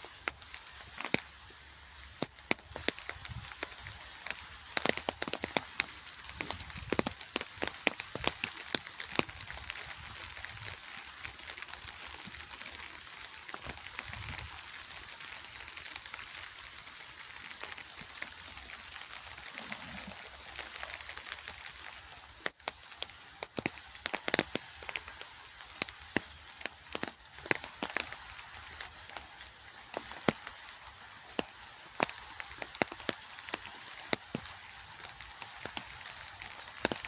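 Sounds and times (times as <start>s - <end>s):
raindrops tapping: 0.0s - 37.0s
steady rain hissing: 0.0s - 37.0s.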